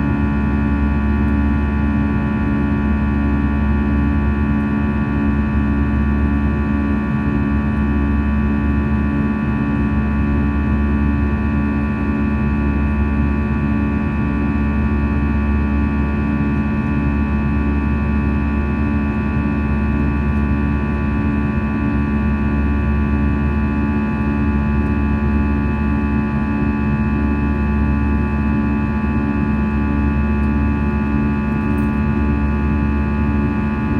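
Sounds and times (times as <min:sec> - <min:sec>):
airplane cabin engine drone: 0:00.0 - 0:33.9.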